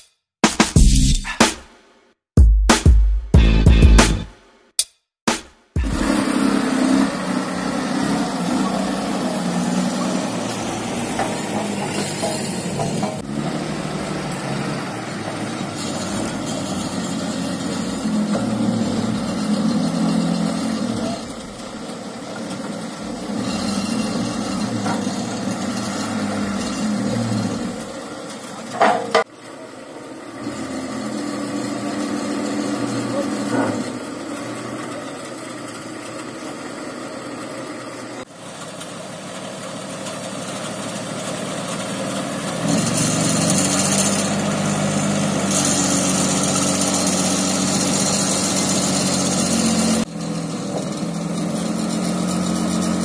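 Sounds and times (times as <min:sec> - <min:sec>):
forklift engine running: 0:05.8 - 0:53.0.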